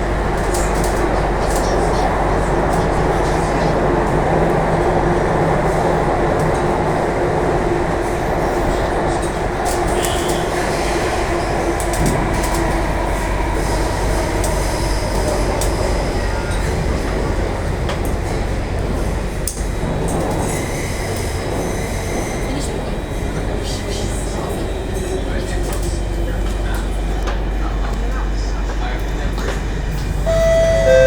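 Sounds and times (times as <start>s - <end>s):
metro train cabin rumble: 0.0s - 21.6s, 22.4s - 31.0s.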